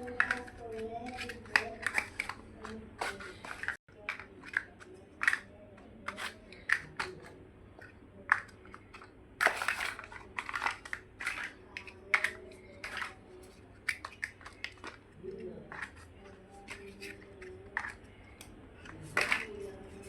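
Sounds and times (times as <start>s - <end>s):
plastic blocks clicking and snapping: 0.0s - 20.0s.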